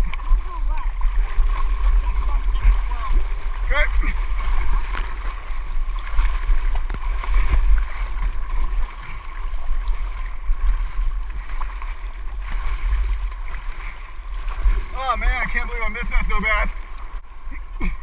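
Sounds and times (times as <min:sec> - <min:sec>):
low rumble on microphone: 0:00.0 - 0:18.0
water splashing around kayak: 0:00.0 - 0:18.0.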